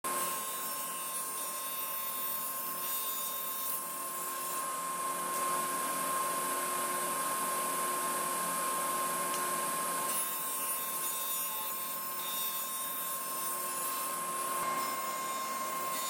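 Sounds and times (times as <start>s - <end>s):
table saw running: 0.1s - 16.0s.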